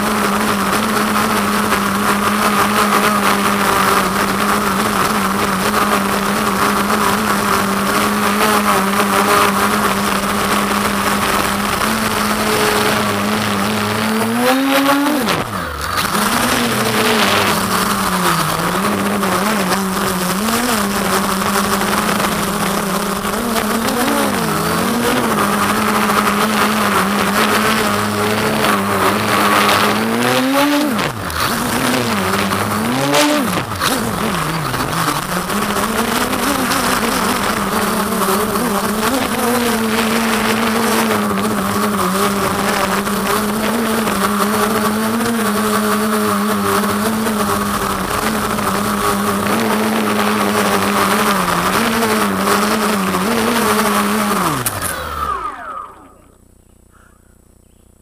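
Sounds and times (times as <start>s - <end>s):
drone propellers buzzing: 0.0s - 57.6s.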